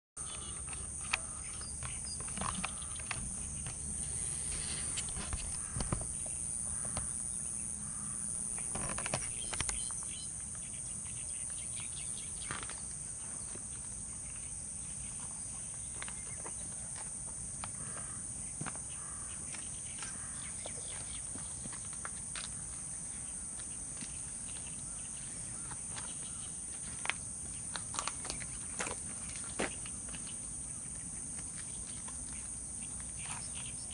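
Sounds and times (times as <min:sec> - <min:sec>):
high-pitched insect chorus: 0:00.2 - 0:33.9.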